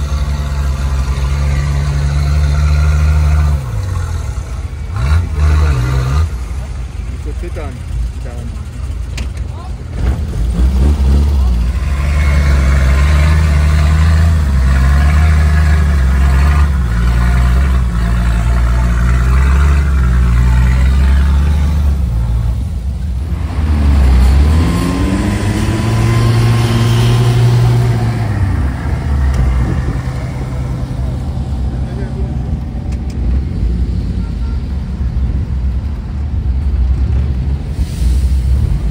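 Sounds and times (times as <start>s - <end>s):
vehicle engine running under load: 0.0s - 38.9s.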